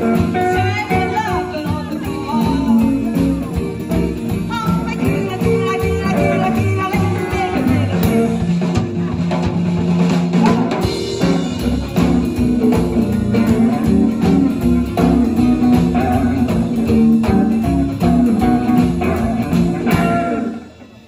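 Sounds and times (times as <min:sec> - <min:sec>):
upright double bass: 0:00.0 - 0:20.7
drum kit: 0:00.0 - 0:21.0
electric and acoustic guitars: 0:00.0 - 0:21.0.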